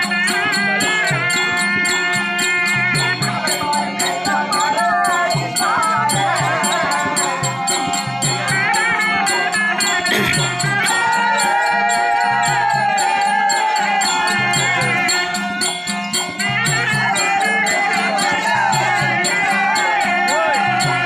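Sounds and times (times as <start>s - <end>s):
drum beat: 0.0s - 21.0s
small hand cymbals: 0.0s - 21.0s.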